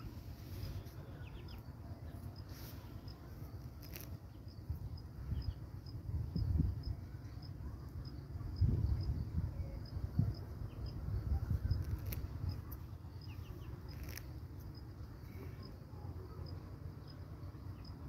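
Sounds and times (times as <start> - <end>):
insect chirping: 0.5 - 18.0.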